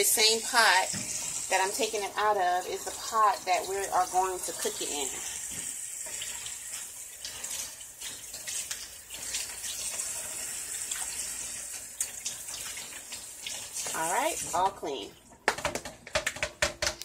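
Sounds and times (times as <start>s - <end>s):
tap water running into sink: 0.1s - 17.0s.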